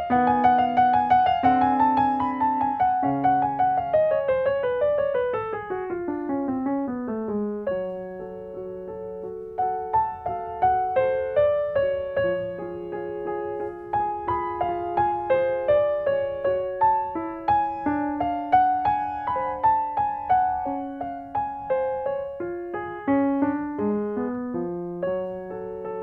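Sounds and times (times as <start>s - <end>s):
solo classical piano: 0.0s - 26.0s.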